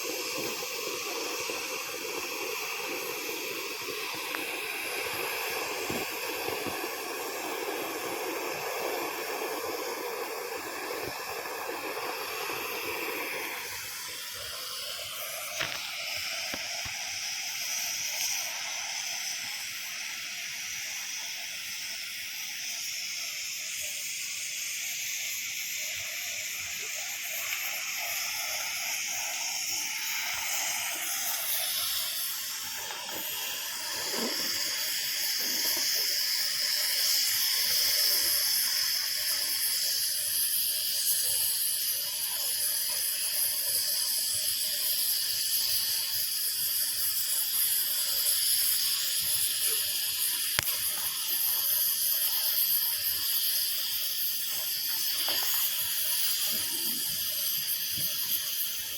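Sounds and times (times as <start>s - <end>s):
cutting torch hissing: 0.0s - 58.9s.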